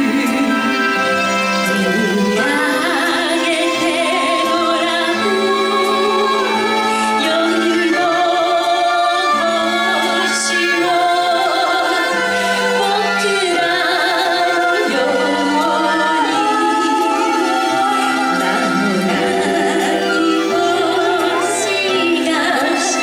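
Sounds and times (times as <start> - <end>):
low accompanying notes: 0.0 - 23.0
women singing into microphones: 0.0 - 23.0.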